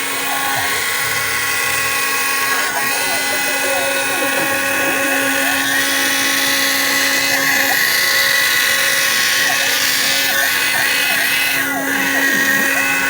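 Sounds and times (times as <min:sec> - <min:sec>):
router cutting into plastic: 0:00.0 - 0:13.0
router spindle whine: 0:00.0 - 0:13.0.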